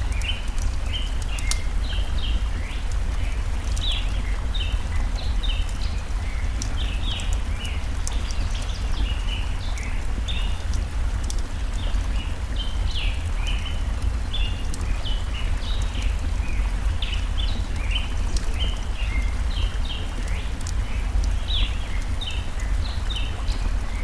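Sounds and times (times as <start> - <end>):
campfire crackling: 0.0 - 24.0
forest stream rushing: 0.0 - 24.0.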